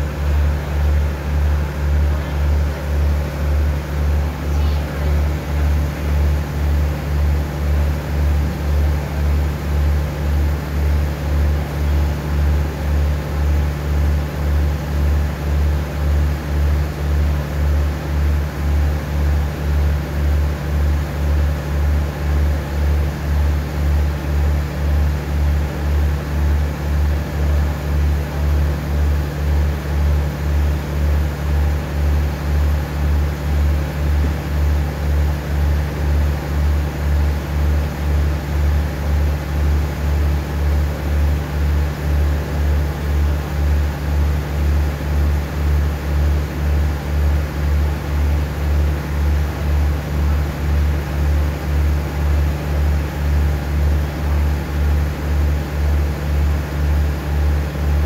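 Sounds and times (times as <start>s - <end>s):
diesel train idling: 0.0s - 58.0s.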